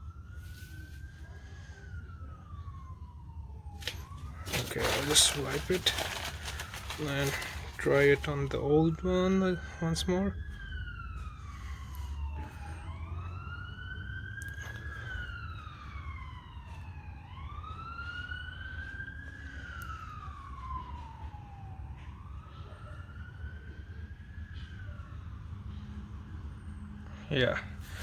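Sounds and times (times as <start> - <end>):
emergency siren wailing: 0.0 - 28.0.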